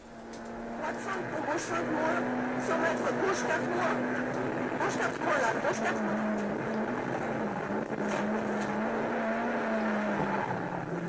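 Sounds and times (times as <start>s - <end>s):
rally car engine running: 0.0s - 11.0s.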